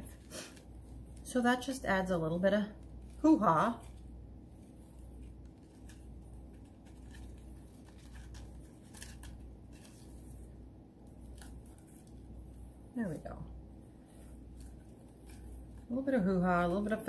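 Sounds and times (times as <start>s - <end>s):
low steady hum: 0.0s - 17.0s
plastic ribbon rustling: 0.0s - 17.0s.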